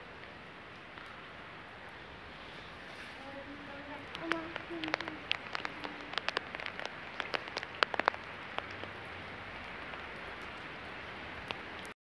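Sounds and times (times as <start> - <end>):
rain falling: 0.0 - 12.0
raindrops tapping: 0.0 - 12.0.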